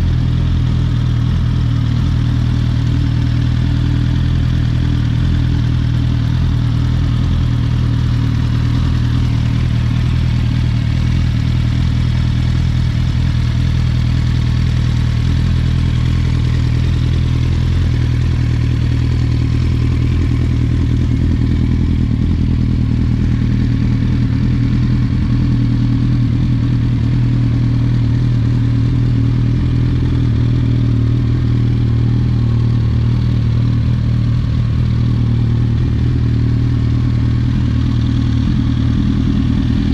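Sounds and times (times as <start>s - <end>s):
quad engine idling: 0.0s - 39.9s.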